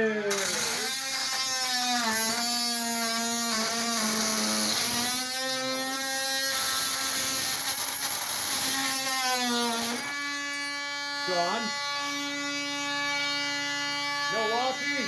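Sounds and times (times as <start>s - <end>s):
oscillating multi-tool buzzing: 0.0s - 15.0s.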